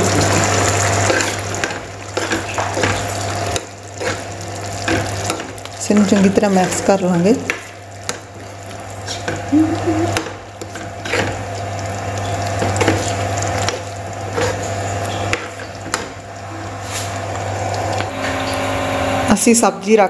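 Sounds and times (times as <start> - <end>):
gravy sizzling: 0.0 - 19.6.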